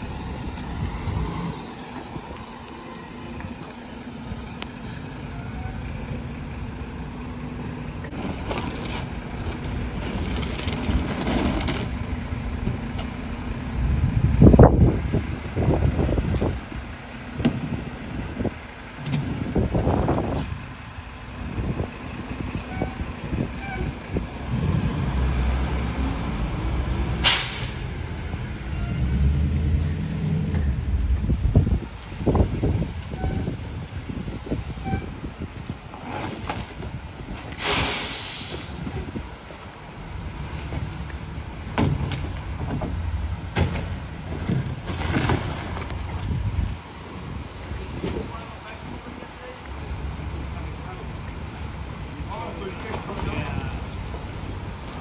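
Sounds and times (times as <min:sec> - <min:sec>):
diesel engine revving: 0:00.0 - 0:45.0
garbage truck rumbling: 0:00.0 - 0:55.0.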